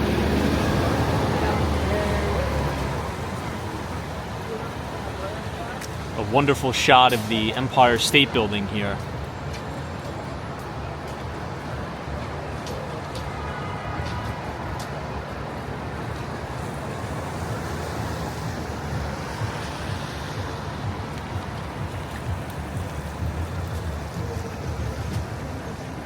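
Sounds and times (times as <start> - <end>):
city street traffic: 0.0 - 26.0.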